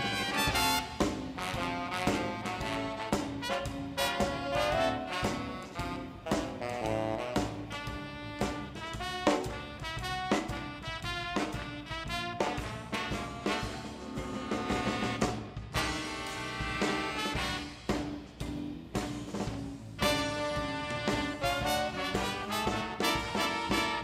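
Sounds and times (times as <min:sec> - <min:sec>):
drum kit: 0:00.0 - 0:24.0
swing band horns: 0:00.0 - 0:24.0.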